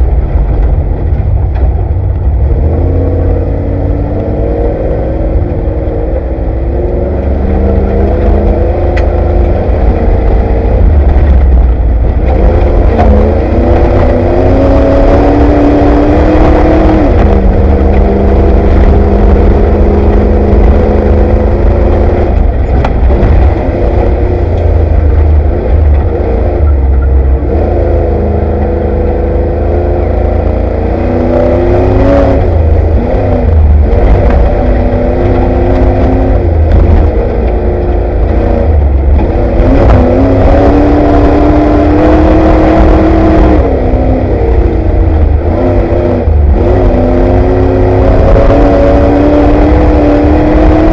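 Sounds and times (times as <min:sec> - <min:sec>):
engine revving inside cab: 0:00.0 - 0:50.9
heavy low rumble: 0:00.0 - 0:50.9.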